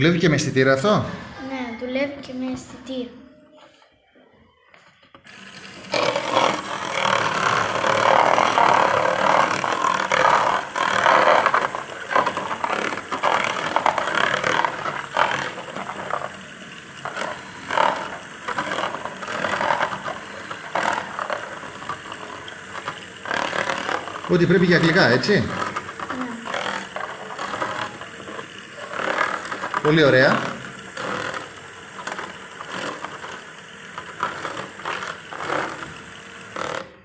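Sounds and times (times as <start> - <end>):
small motors running: 4.8 - 37.0
beaters rattling in plastic plate: 5.9 - 36.9.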